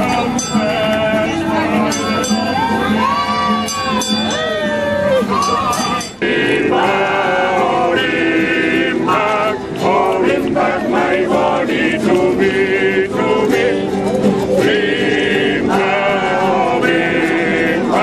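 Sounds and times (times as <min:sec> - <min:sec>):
men's choir singing: 0:00.0 - 0:02.4, 0:05.7 - 0:18.0.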